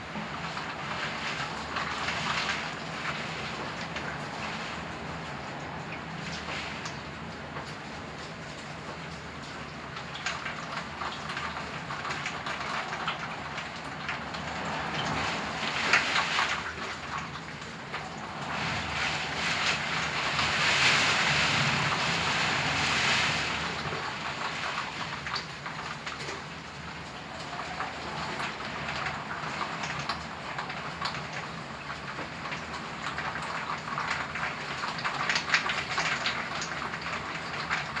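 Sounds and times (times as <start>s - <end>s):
rain patters: 0.0s - 38.0s.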